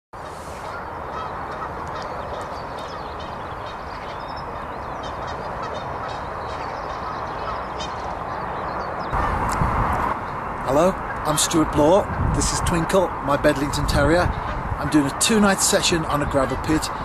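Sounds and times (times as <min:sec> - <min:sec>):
wind: 0:00.1 - 0:17.0
birds chirping and trilling: 0:00.2 - 0:17.0.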